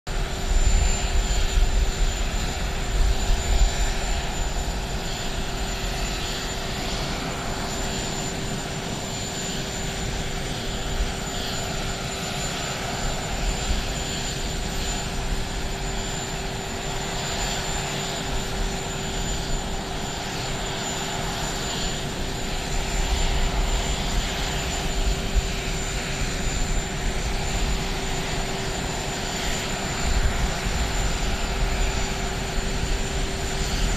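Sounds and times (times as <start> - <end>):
jet turbine whine: 0.1 - 33.9.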